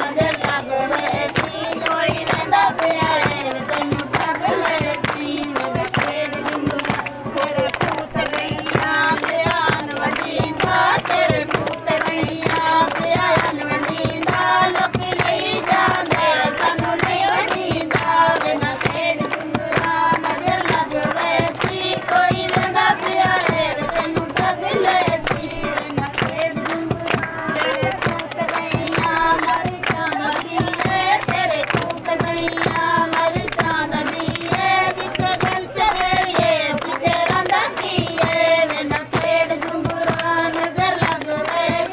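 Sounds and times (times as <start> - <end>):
group singing folk song: 0.0 - 41.9
rhythmic hand clapping: 0.0 - 41.9.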